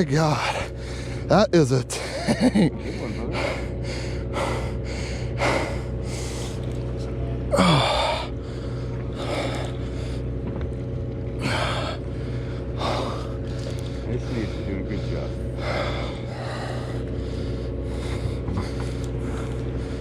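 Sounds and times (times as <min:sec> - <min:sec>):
person breathing heavily: 0:00.0 - 0:10.4, 0:11.4 - 0:20.0
low machine hum: 0:00.0 - 0:20.0.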